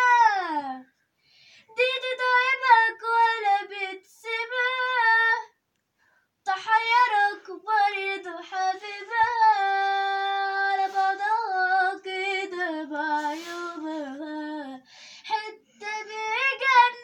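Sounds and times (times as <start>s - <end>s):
girl singing unaccompanied: 0.0s - 1.0s, 1.6s - 5.6s, 6.4s - 17.0s.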